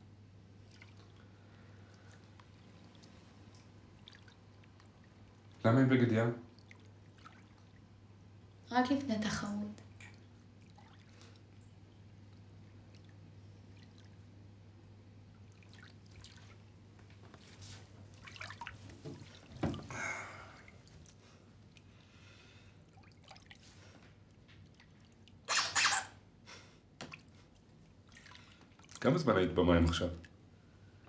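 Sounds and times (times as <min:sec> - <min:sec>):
faint water sounds: 0:00.0 - 0:31.0
low steady hum: 0:00.0 - 0:31.0.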